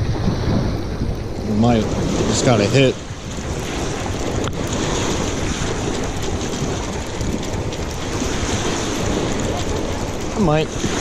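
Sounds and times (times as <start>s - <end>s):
waves washing on shore: 0.0s - 11.0s
wind buffeting microphone: 0.0s - 11.0s.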